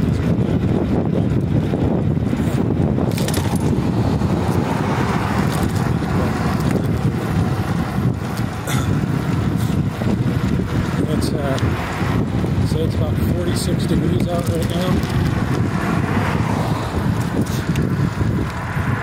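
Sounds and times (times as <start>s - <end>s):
e-bike rolling rumble: 0.0s - 19.0s.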